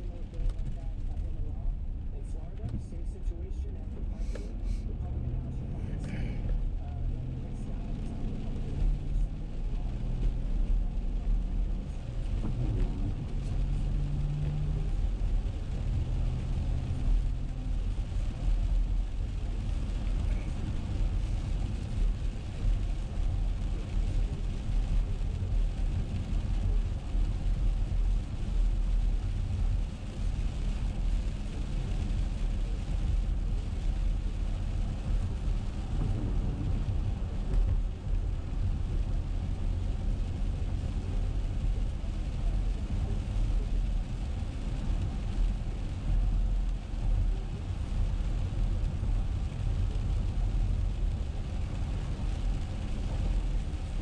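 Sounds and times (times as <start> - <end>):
engine and road rumble: 0.0 - 54.0.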